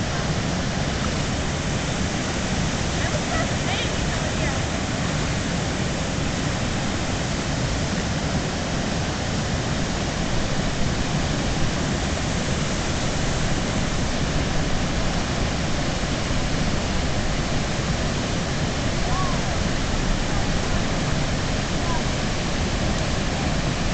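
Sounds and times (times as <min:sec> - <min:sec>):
rushing whitewater: 0:00.0 - 0:23.9.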